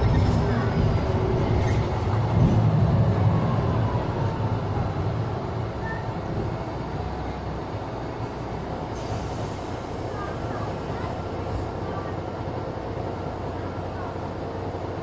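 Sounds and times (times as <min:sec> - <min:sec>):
bus engine and running noise: 0:00.0 - 0:15.0.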